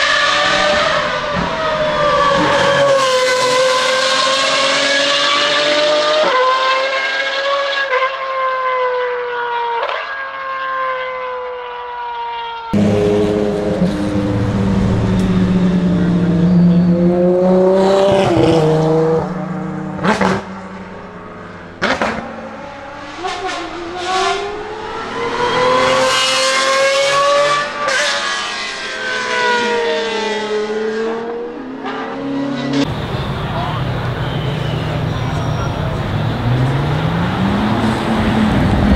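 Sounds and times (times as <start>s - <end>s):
race car engines revving: 0.0s - 11.5s, 12.7s - 38.9s
race car engine at high revs: 0.0s - 11.8s, 12.7s - 38.9s.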